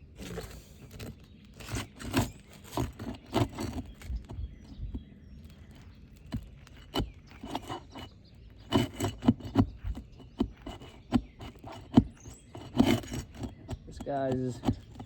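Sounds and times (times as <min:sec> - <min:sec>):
tool scraping under roof shingles: 0:00.0 - 0:15.0.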